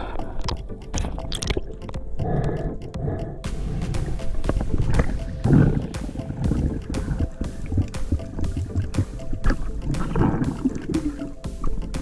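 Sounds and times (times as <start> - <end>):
background music with a beat: 0.0 - 12.0.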